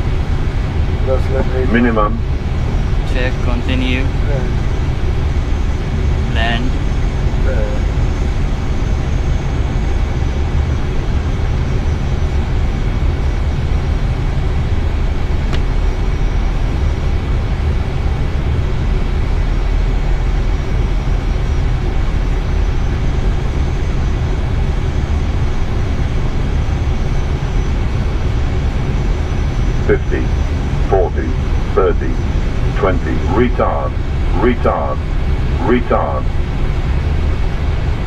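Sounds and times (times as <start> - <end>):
airflow and engine rush: 0.0 - 38.0
faint high whine: 0.0 - 38.0.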